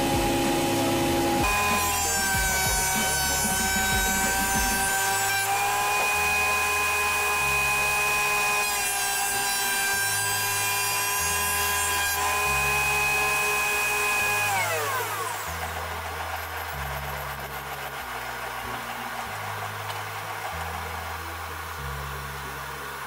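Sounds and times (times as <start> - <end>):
motor winding down: 0.0 - 23.0
planer cutting wood: 0.0 - 23.0
thickness planer motor whine: 0.0 - 23.0.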